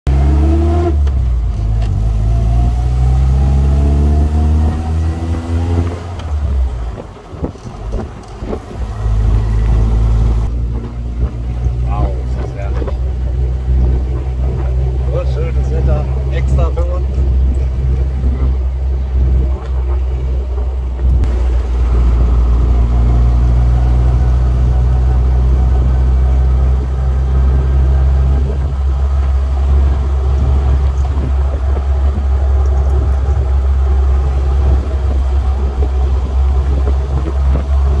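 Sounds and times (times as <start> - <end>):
car engine running: 0.1 - 38.0
wind and road noise: 0.1 - 38.0.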